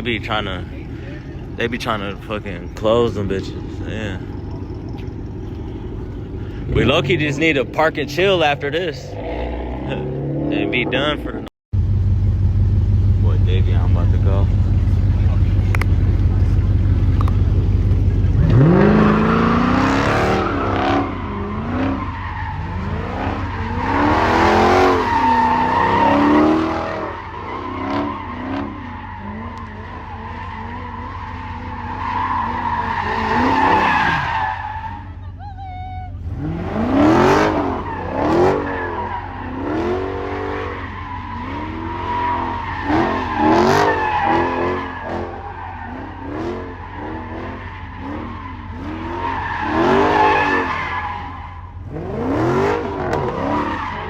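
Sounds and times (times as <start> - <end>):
tires squealing: 0.0 - 11.5, 13.4 - 54.0
car engine revving: 0.0 - 35.3, 36.2 - 54.0.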